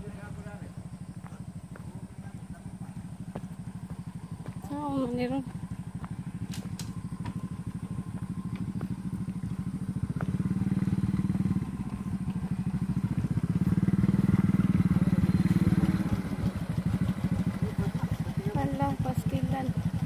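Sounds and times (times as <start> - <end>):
small motorcycle engine revving: 0.0 - 20.0.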